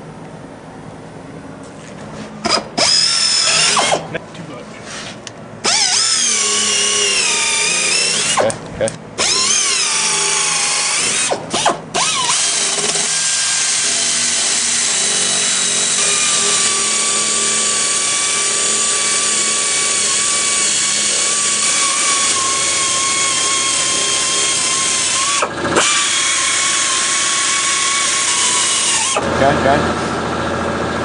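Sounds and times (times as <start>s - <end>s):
rotary grinder whining: 2.4s - 4.2s, 5.6s - 8.6s, 9.2s - 30.9s.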